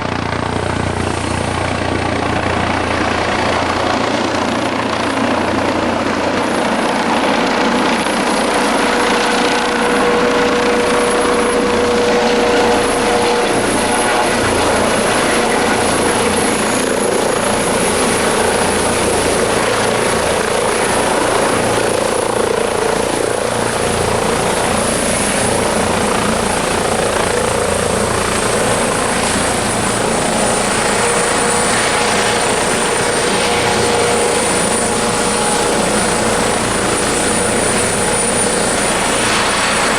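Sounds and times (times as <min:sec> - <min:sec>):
helicopter rotor and turbine noise: 0:00.0 - 0:39.9
high-pitched turbine whine: 0:00.0 - 0:39.9.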